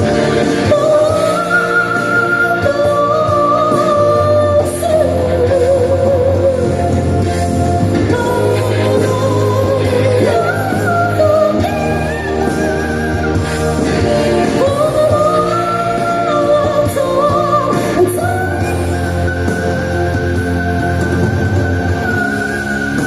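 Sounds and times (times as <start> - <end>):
amplified backing music: 0.0 - 23.0
person singing live: 0.0 - 23.0.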